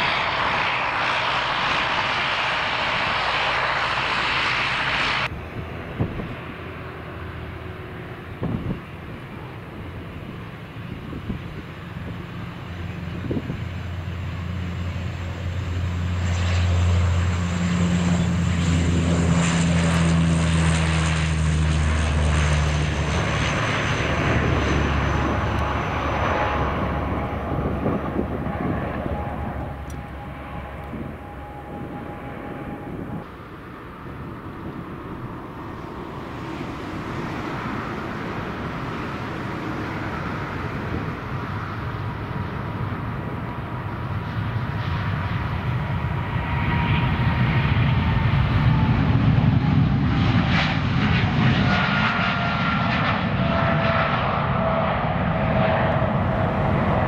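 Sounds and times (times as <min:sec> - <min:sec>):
jet engines running at low power: 0:00.0 - 0:57.0
turboprop airliner propeller drone: 0:00.0 - 0:57.0.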